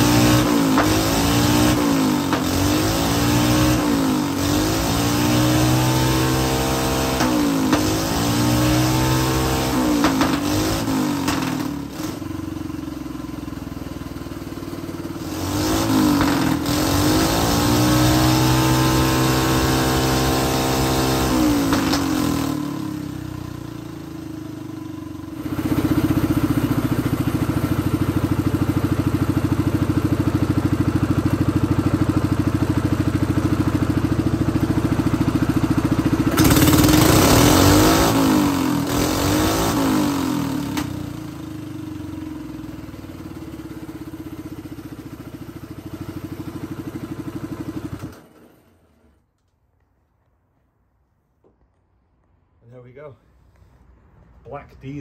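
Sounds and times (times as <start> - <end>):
kart engine revving: 0.0 - 49.2.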